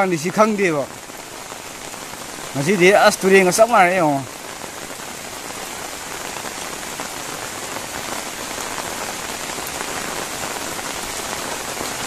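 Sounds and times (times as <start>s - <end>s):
rain falling on floodwater: 0.0s - 12.0s.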